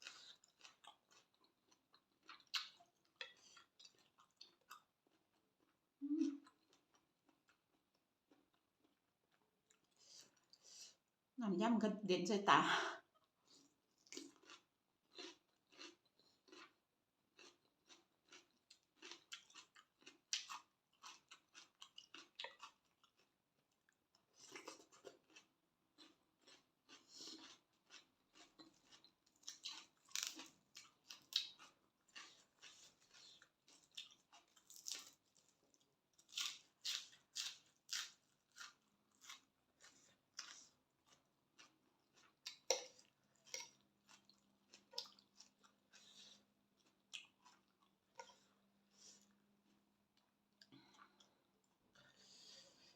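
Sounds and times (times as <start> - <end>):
person chewing and smacking: 0.0 - 10.7, 13.1 - 52.9.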